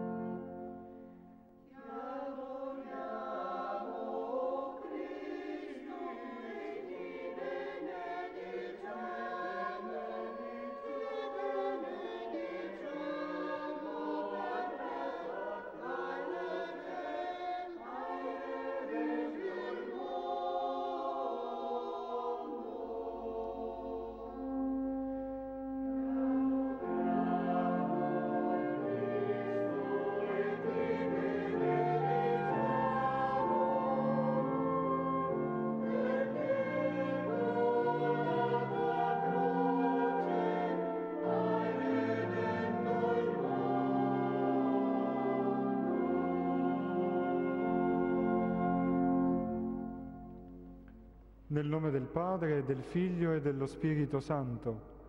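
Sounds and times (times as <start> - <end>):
pipe organ: 0.0 - 1.4, 2.6 - 55.0
choir singing a hymn: 0.0 - 51.0.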